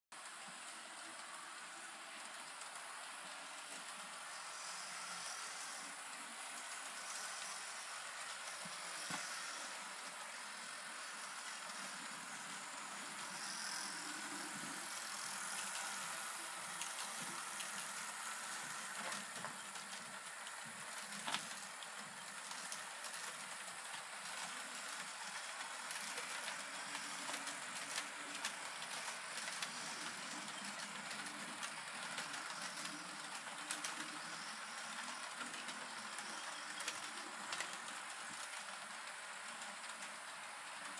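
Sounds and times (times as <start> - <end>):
model train motor whir: 0.2 - 40.9.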